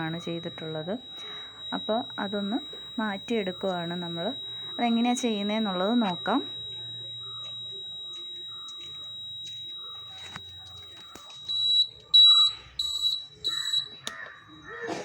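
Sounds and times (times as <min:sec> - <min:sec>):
high buzzer beeps: 0:00.0 - 0:14.6
faint continuous high tone: 0:00.0 - 0:14.7.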